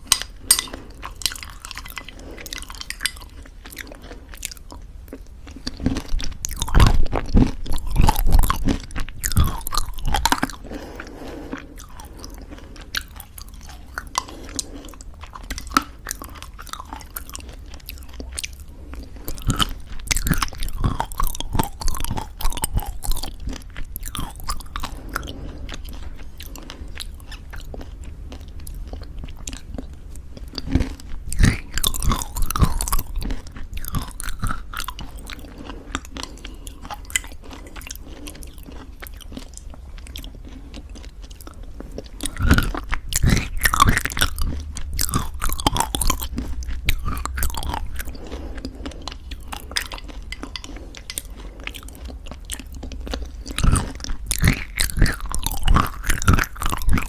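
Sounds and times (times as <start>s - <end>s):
wet mouth sounds: 0.0s - 28.0s, 28.6s - 57.0s
chewing crunchy granola: 0.0s - 57.0s.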